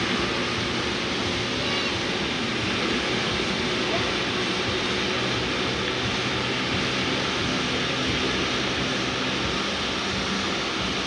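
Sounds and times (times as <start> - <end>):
steam train hissing and rumbling: 0.0 - 11.0.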